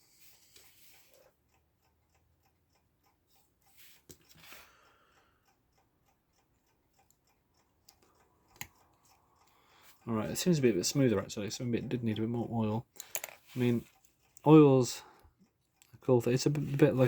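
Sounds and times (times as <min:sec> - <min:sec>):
electric clock ticking: 0:00.0 - 0:17.0.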